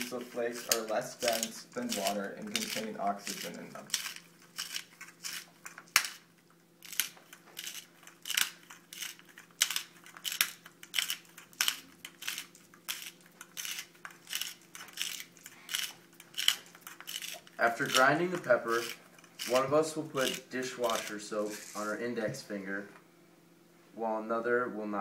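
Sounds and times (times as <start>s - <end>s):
pepper mill grinding: 0.0s - 22.0s.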